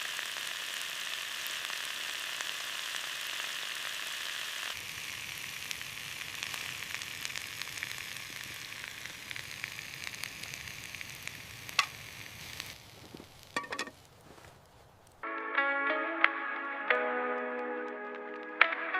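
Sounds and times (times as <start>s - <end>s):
fire crackles and pops: 0.0s - 15.2s, 16.2s - 18.9s
food sizzling over a fire: 0.0s - 15.2s, 16.8s - 18.9s.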